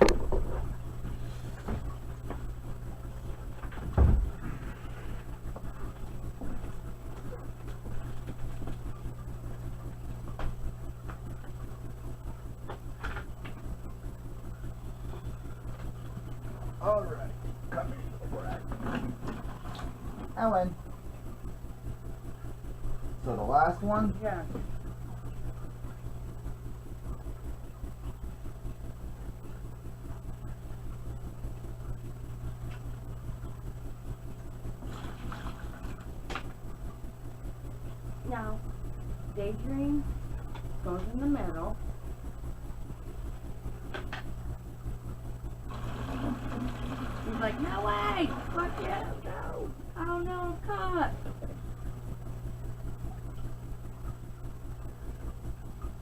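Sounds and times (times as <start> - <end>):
filter pump humming: 0.0 - 56.0.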